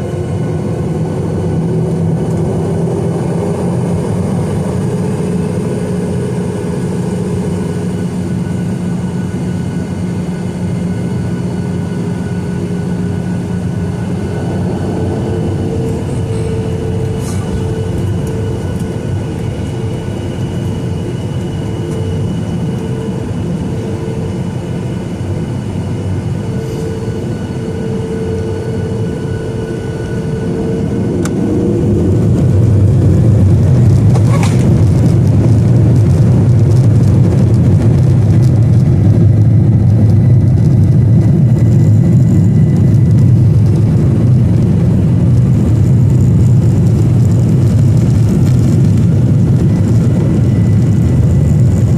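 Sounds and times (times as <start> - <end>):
jet engines heard from cabin: 0.0 - 51.9.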